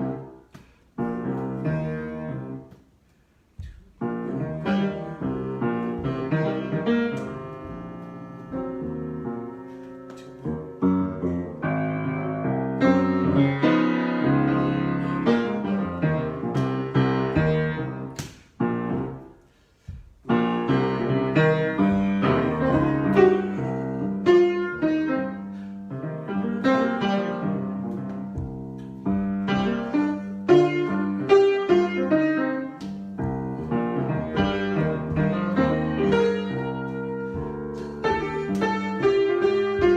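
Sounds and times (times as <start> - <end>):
solo piano improvising: 0.0 - 39.9.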